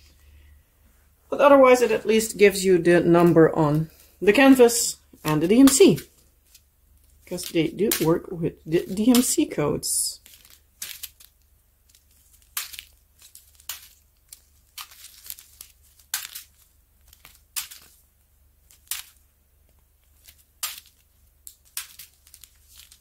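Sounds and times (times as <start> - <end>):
plastic bags crinkling: 3.2 - 23.0.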